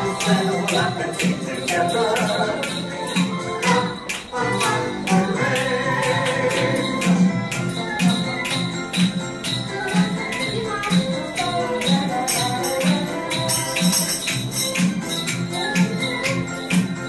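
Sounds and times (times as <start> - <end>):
music with steady beat: 0.0 - 17.0
tambourines and jingle bells shaken: 0.0 - 17.0.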